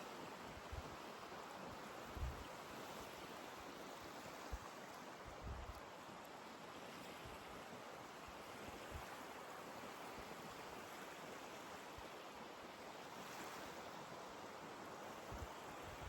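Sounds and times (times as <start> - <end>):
waves washing on beach: 0.0 - 16.0.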